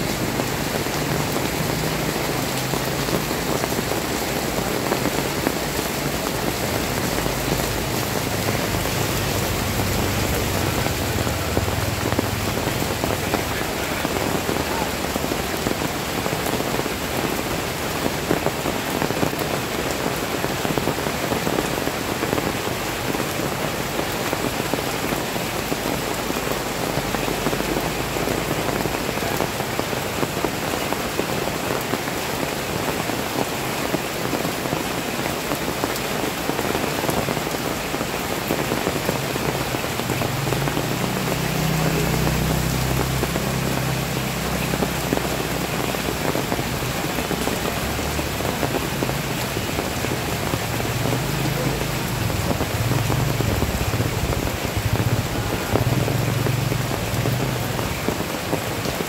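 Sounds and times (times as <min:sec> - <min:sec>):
heavy rain splashing into water: 0:00.0 - 0:59.0.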